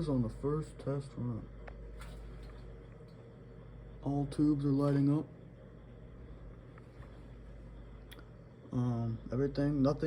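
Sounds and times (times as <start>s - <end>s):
radio hum and hiss: 0.0s - 10.0s.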